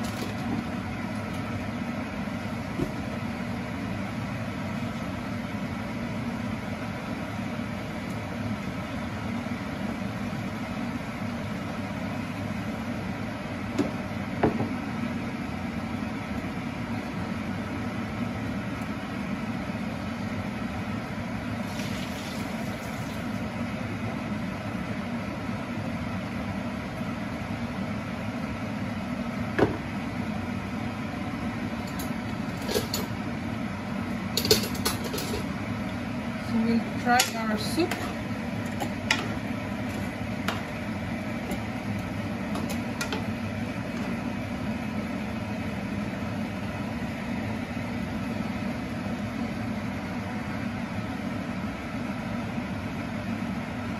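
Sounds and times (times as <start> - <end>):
fan-like hum: 0.0 - 53.9.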